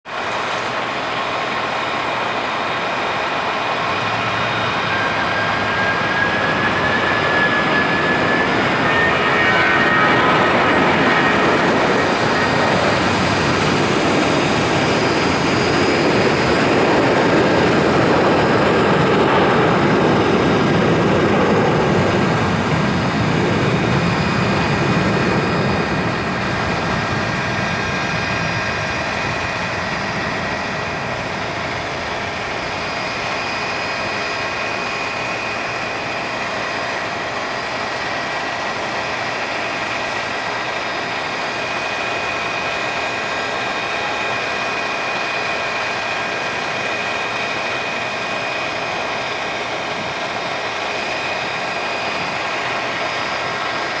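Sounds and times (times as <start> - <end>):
high fan whine: 0.0 - 54.0
jet engines at takeoff thrust: 0.0 - 54.0.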